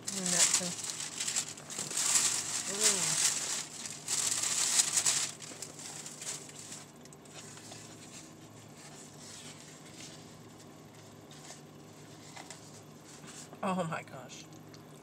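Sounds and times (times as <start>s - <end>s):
paper rustling: 0.0s - 13.5s
air conditioner humming: 0.0s - 15.0s.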